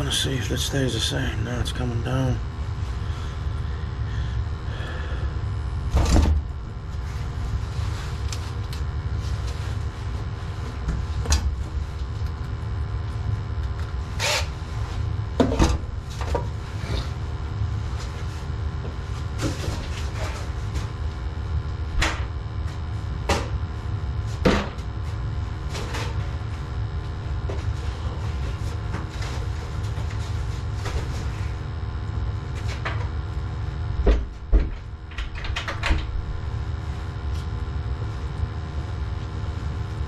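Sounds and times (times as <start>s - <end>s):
faint steady hum: 0.0s - 40.0s
gas burners rumbling: 0.0s - 40.0s.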